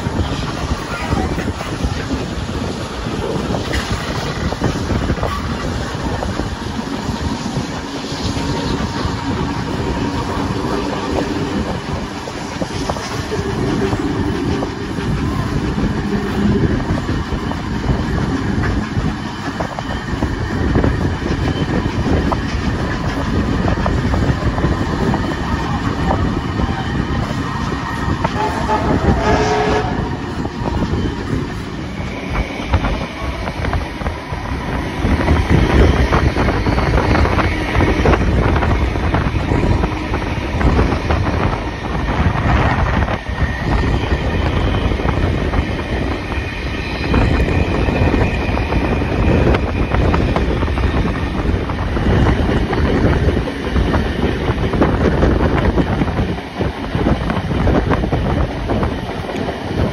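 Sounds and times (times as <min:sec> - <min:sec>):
clickety-clack of rail joints: 0:00.0 - 0:59.9
train wheels rumbling on rails: 0:00.0 - 0:59.9.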